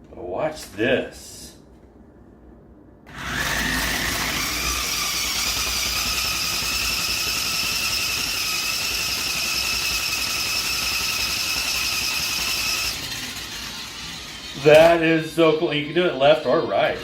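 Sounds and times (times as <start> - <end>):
toy car electric motors whining: 3.1 - 17.0.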